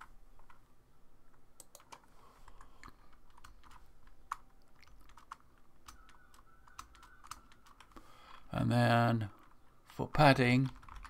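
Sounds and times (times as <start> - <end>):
faint keyboard typing: 0.0 - 0.7, 1.3 - 11.0.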